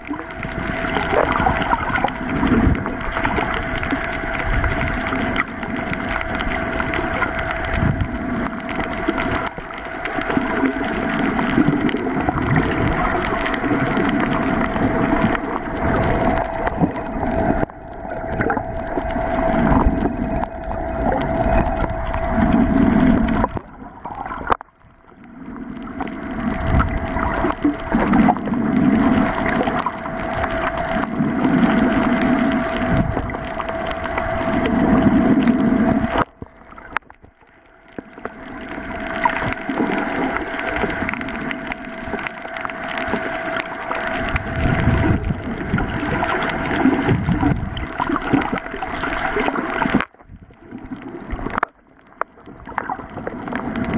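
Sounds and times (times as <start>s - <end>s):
muffled underwater hum: 0.0s - 53.9s
swishing water: 0.0s - 53.9s.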